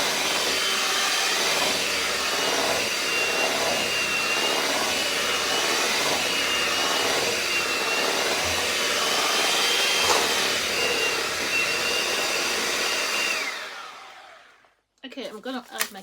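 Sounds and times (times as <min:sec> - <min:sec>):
electric mixer whining: 0:00.0 - 0:14.7.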